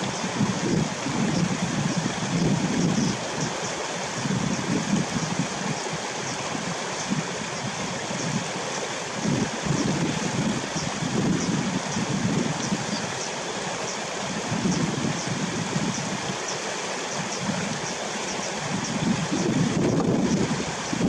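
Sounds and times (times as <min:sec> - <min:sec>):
flowing water rushing: 0:00.0 - 0:21.0
wind on microphone: 0:00.0 - 0:21.0.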